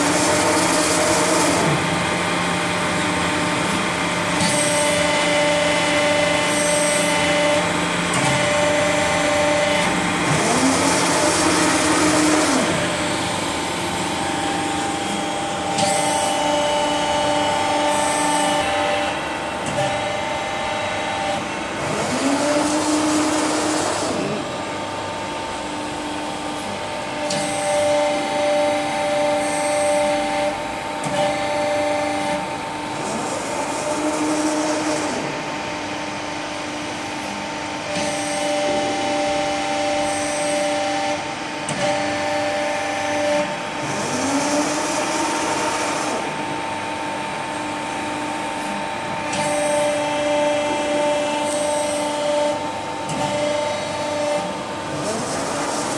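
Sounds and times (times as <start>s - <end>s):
hydraulic pump motor humming: 0.0s - 55.9s.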